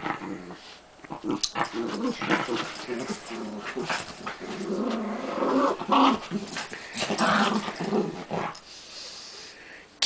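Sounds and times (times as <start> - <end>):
small dogs growling: 0.0 - 8.6.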